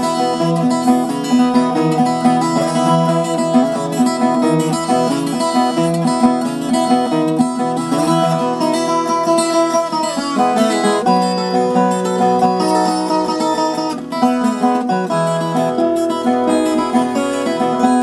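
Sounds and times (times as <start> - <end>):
guitar plucked and strummed: 0.0 - 18.0.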